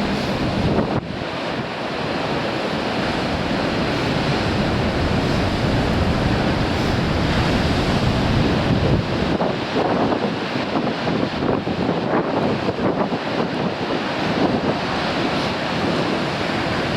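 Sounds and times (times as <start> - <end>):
surf breaking on rocks: 0.0 - 16.9
wind buffeting microphone: 0.0 - 16.9.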